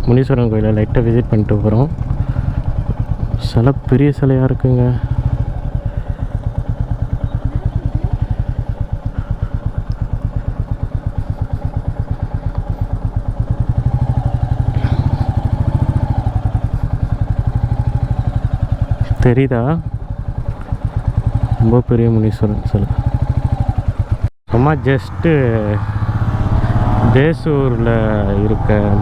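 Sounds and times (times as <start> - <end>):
motorcycle engine at low revs: 0.0 - 29.0.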